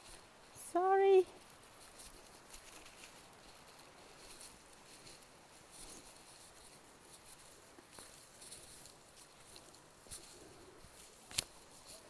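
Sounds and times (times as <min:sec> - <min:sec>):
quiet forest ambience: 0:00.0 - 0:12.0.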